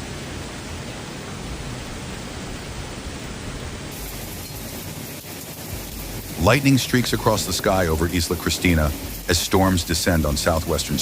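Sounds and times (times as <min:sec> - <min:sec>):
floodwater rushing down a street: 0:00.0 - 0:11.0.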